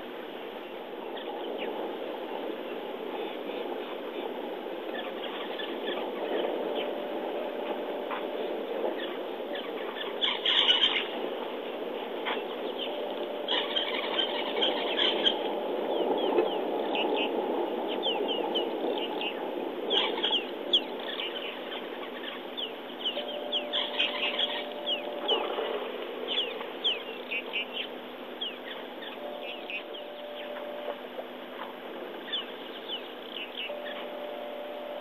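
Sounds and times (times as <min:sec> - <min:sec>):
birds chirping: 0:00.0 - 0:35.0
faint steady hum: 0:00.0 - 0:35.0.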